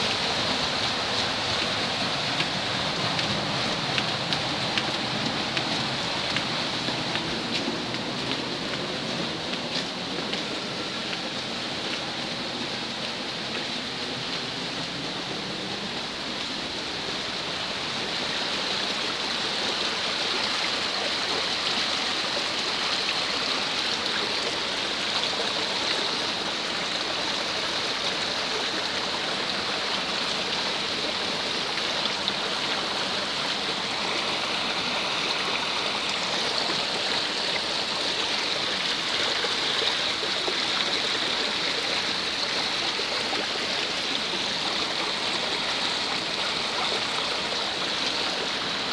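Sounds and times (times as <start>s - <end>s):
water rushing down gully: 0.0s - 48.9s.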